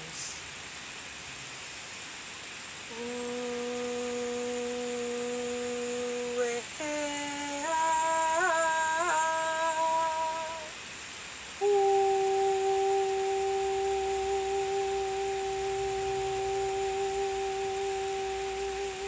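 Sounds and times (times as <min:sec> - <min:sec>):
woman humming held tones: 0:02.9 - 0:10.8, 0:11.6 - 0:19.0.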